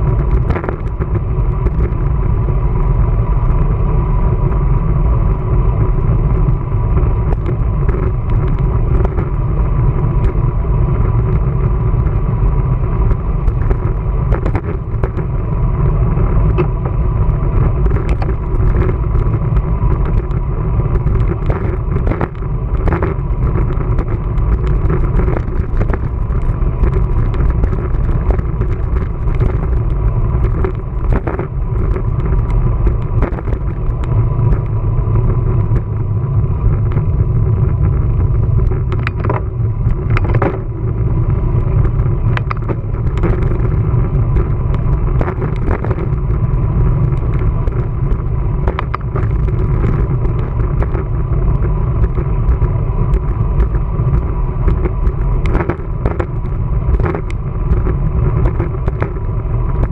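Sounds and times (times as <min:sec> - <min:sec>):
bicycle road noise: 0:00.0 - 0:59.9
low rumble of wind: 0:00.0 - 0:59.9.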